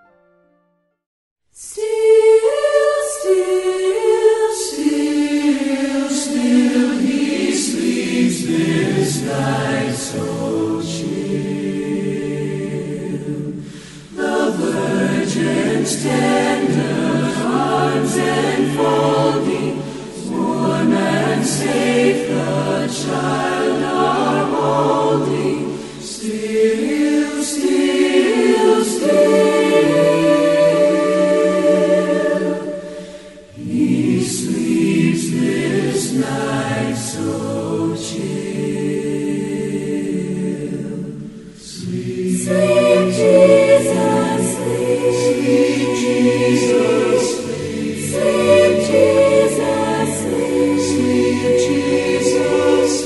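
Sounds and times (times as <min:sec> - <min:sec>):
choir singing in harmony: 0:01.6 - 0:53.0.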